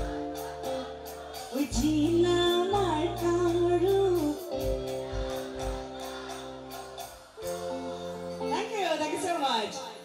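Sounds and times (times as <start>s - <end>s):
heavy bass: 0.0s - 8.2s
live band playing: 0.0s - 10.0s.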